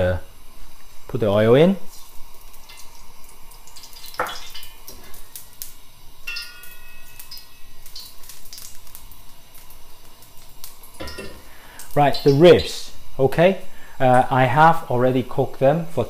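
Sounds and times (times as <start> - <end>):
oil crackling in a wok: 0.0 - 14.4.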